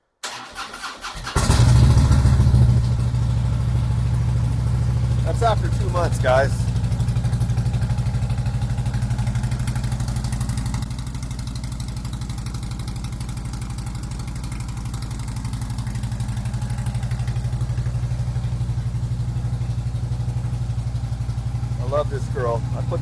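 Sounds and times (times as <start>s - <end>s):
motorcycle engine idling: 1.4s - 23.0s.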